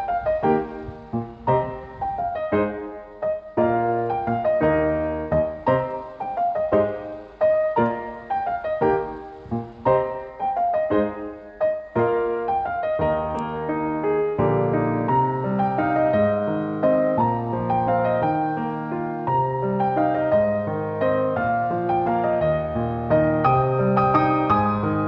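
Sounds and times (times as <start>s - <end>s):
gentle piano music: 0.0s - 25.0s.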